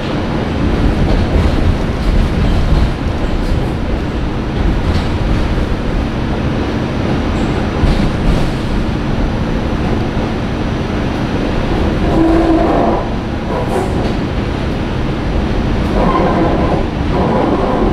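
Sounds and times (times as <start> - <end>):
subway train rumbling on rails: 0.0 - 17.9.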